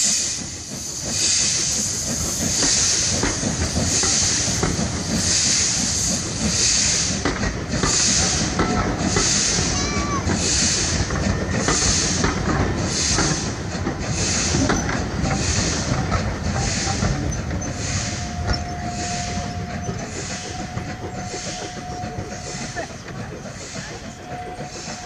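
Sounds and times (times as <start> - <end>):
steam locomotive exhaust hiss: 0.0 - 25.0
train wheels rumbling and clicking: 0.0 - 25.0.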